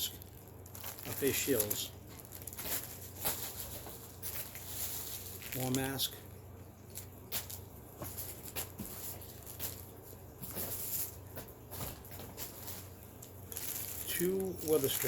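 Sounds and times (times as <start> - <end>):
plastic packaging rustling: 0.0 - 15.0
steady low hum: 0.0 - 15.0.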